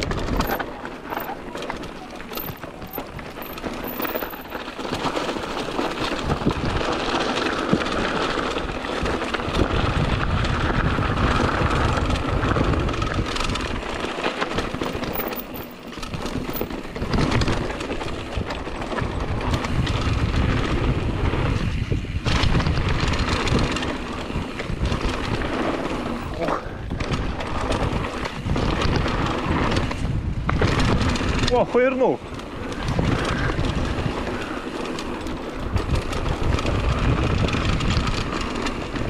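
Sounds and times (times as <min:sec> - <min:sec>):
bike clicking and rattling: 0:00.0 - 0:39.0
bike tyres on dirt and stones: 0:00.0 - 0:39.0
wind buffeting microphone: 0:00.0 - 0:39.0.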